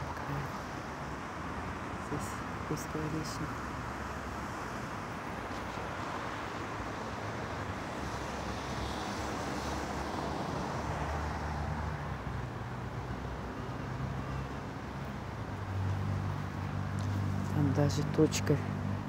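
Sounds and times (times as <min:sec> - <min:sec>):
city road traffic noise: 0:00.0 - 0:19.0
passing vehicle engine hum: 0:00.0 - 0:19.0.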